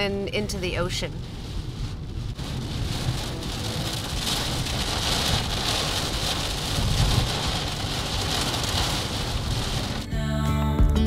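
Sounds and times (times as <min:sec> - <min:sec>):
heavy rain on car windshield: 0:00.0 - 0:10.0
low rumble: 0:00.0 - 0:10.4.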